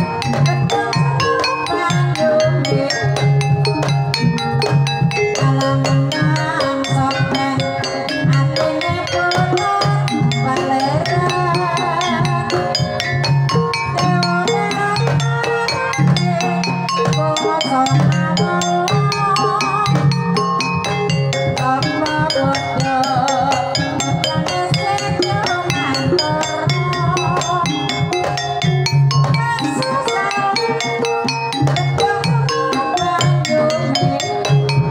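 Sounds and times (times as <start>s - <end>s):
kettle gongs struck with mallets: 0.0s - 34.9s
person singing ornamented melody: 0.0s - 34.9s.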